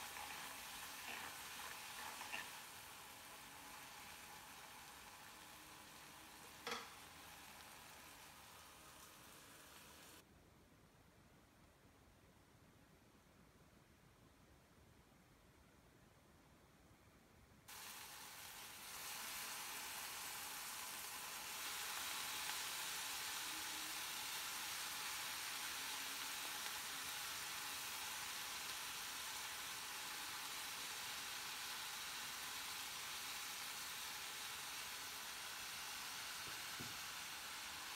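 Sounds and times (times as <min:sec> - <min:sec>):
vegetables sizzling in hot oil: 0:00.0 - 0:10.2, 0:17.7 - 0:37.9.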